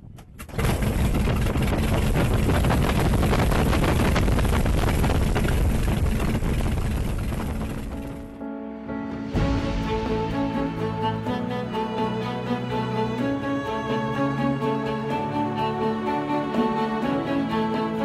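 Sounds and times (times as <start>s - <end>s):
aircraft engine starting and running: 0.0s - 8.4s, 9.1s - 18.0s.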